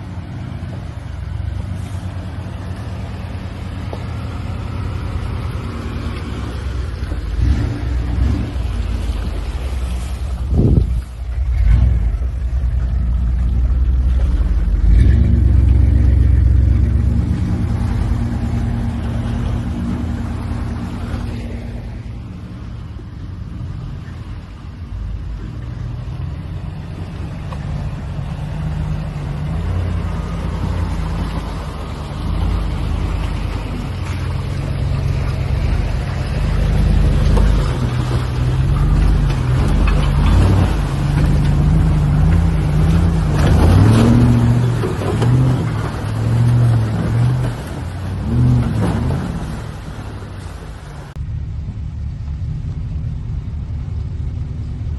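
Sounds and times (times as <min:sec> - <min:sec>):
water sloshing: 0:00.0 - 0:51.2
truck engines running: 0:00.0 - 0:54.9.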